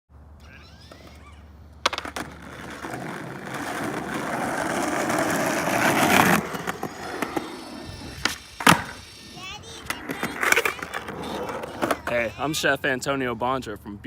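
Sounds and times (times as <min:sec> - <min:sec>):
skateboard wheels rolling on pavement: 0:00.6 - 0:13.8
skateboard clicks: 0:00.9 - 0:12.3.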